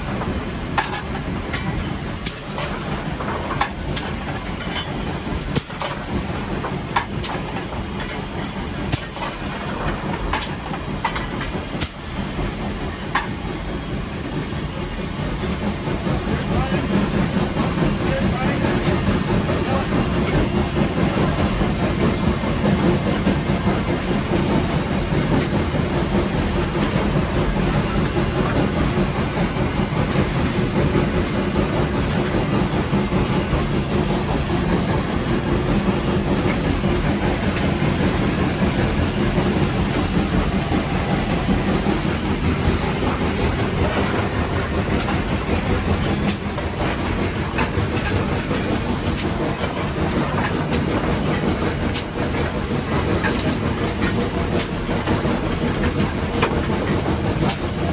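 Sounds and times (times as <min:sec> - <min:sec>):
steam locomotive running: 0:00.0 - 0:57.9.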